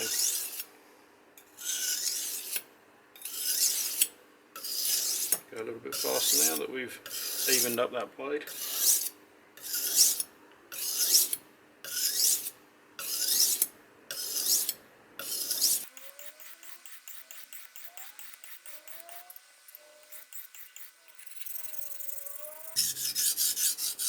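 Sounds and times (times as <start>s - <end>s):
knife scraping on whetstone: 0.0s - 0.7s, 1.5s - 7.8s, 8.5s - 24.0s.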